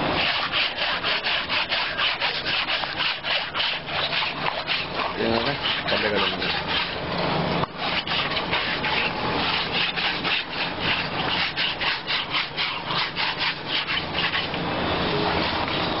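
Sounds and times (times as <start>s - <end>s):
rubber tube being scrubbed: 0.0s - 16.0s.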